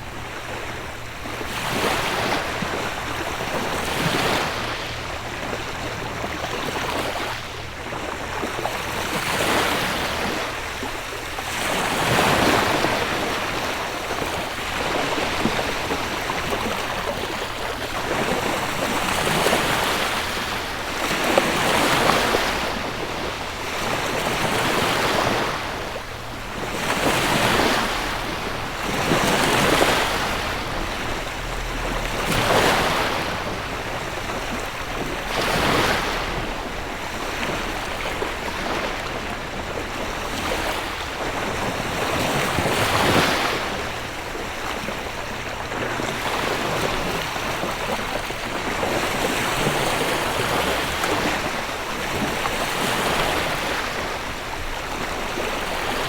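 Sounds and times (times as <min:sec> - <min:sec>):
gentle sea waves breaking: 0:00.0 - 0:56.0.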